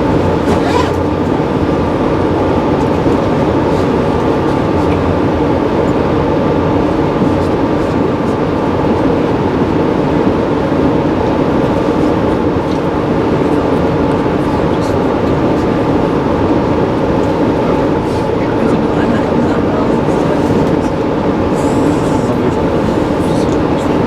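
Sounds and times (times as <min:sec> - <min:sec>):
railcar rolling along track: 0:00.0 - 0:24.0.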